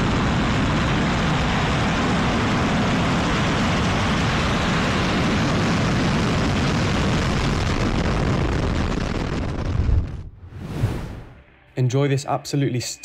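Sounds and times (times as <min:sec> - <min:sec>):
rocket engines roaring at liftoff: 0:00.0 - 0:11.4.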